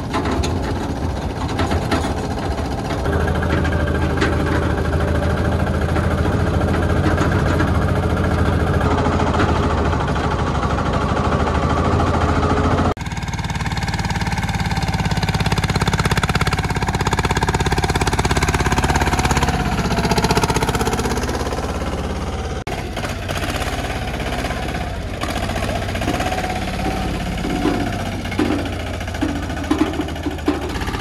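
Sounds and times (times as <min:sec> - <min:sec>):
tractor engine knocking: 0:00.0 - 0:31.0.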